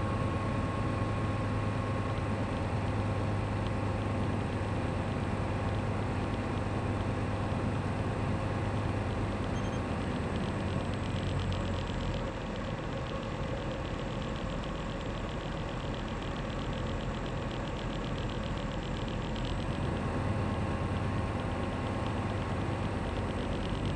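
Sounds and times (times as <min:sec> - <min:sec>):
light aircraft engine and propeller: 0:00.0 - 0:23.9.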